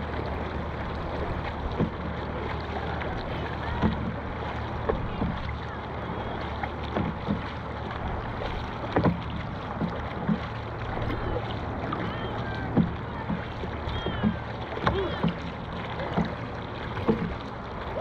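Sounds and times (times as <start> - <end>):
paddles splashing and knocking: 0.0 - 18.0.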